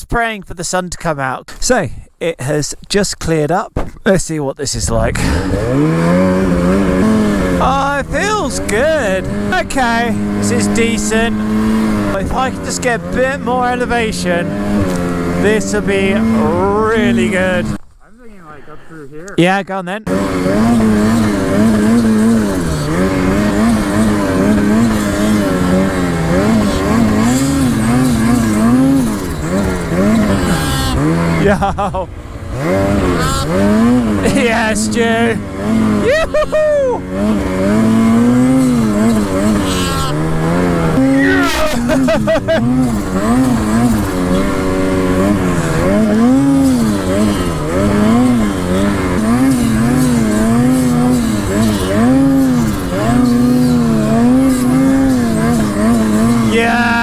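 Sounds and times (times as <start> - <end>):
snowmobile engine revving: 4.2 - 57.0.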